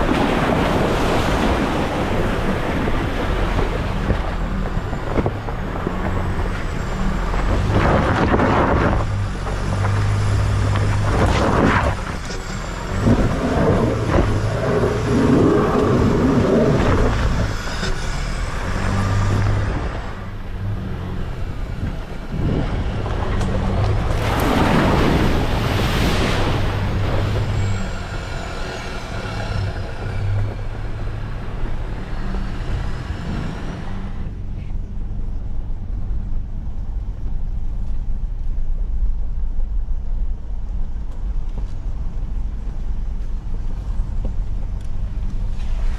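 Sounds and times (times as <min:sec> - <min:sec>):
off-road vehicle engine drone: 0:00.0 - 0:45.9.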